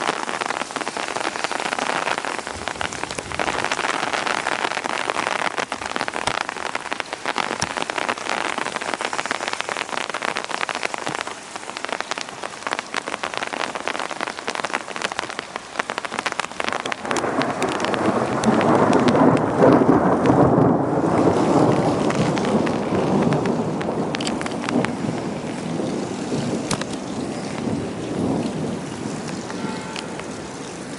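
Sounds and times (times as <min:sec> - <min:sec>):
heavy rain ticking on surface: 0:00.0 - 0:30.9
thunder rumbling: 0:00.0 - 0:30.9.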